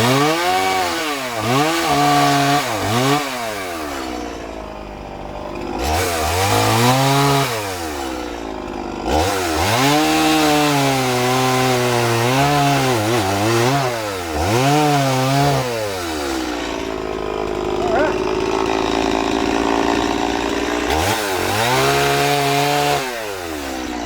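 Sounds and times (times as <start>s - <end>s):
chainsaw revving and cutting: 0.0s - 24.0s.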